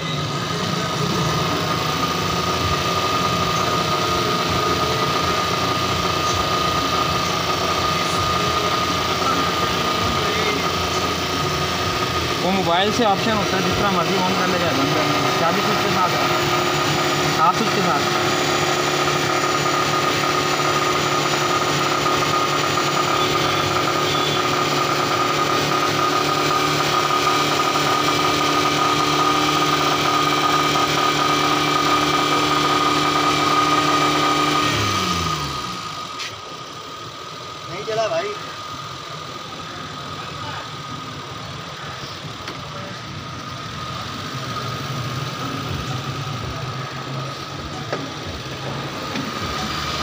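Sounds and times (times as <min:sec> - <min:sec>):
high steady whine: 0:00.0 - 0:50.0
machine droning: 0:00.0 - 0:50.0.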